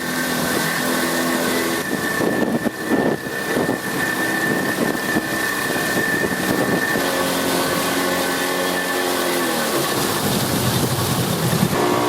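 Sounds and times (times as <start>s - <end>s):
steady mechanical whine: 0.0s - 12.0s
water rushing and splashing: 0.0s - 12.0s.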